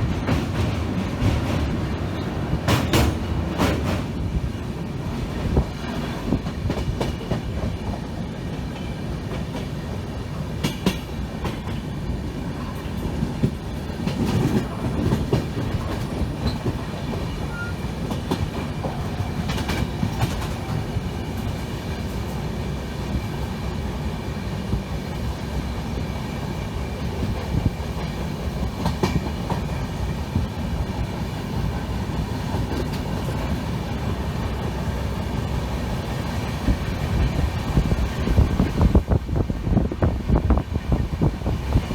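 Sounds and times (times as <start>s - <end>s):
train rumbling on track: 0.0s - 41.9s.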